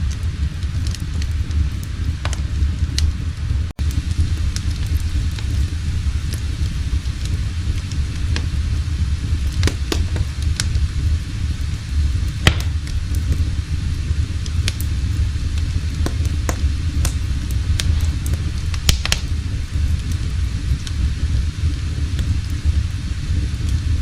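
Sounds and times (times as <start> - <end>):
fire low rumble: 0.0 - 24.0
wood fire crackling and popping: 0.0 - 24.0.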